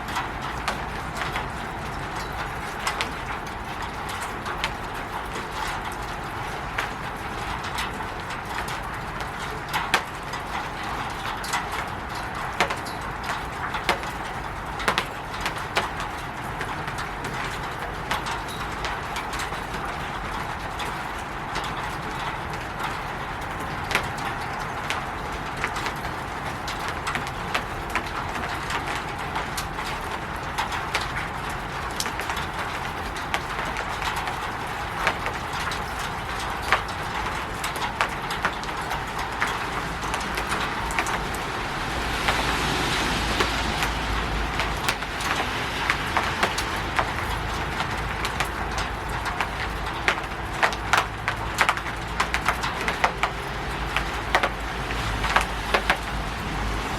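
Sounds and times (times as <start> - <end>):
rain on a roof: 0.0 - 56.9
water drips: 0.0 - 56.9.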